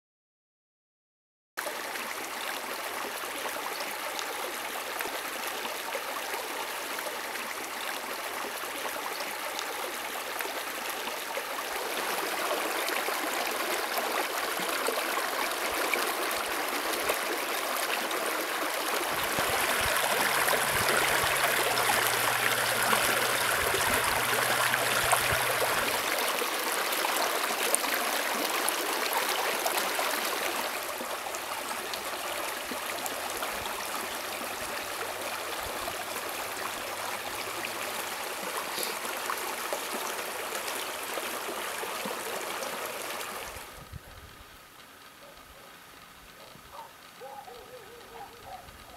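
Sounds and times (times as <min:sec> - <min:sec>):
creek water rushing over rocks: 0:01.6 - 0:43.8.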